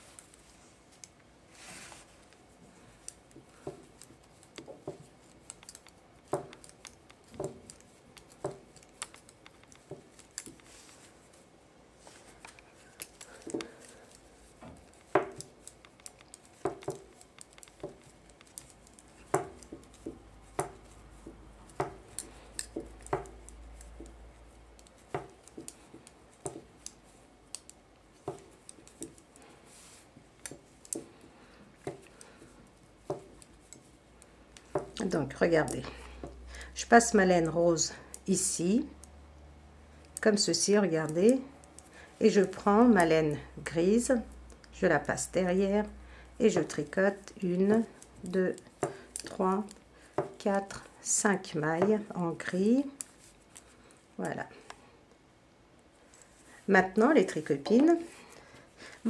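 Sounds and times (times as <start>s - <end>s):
knitting needles clicking: 2.2s - 11.4s, 12.2s - 54.8s.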